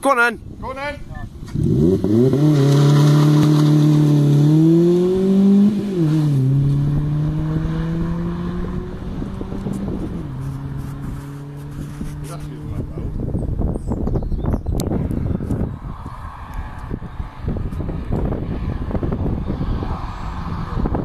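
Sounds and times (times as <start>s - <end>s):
car engine accelerating: 1.3s - 13.4s, 14.8s - 21.0s.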